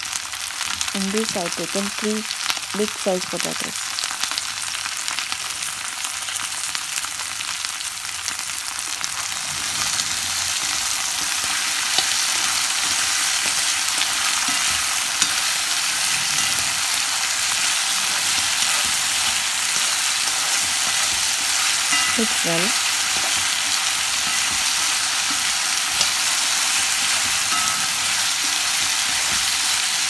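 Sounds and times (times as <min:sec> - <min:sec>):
potatoes sizzling in hot oil: 0:00.0 - 0:30.0.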